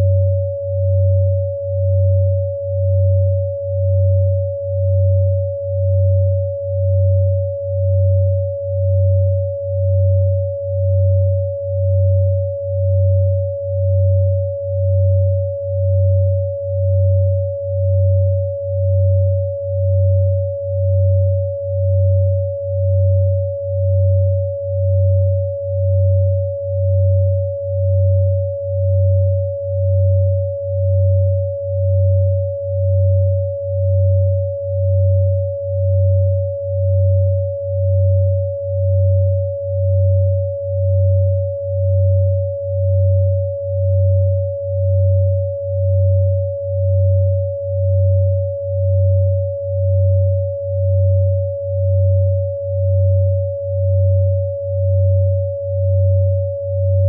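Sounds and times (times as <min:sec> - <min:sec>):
low throbbing hum: 0:00.0 - 0:57.0
steady mid-pitched sine tone: 0:00.0 - 0:57.0.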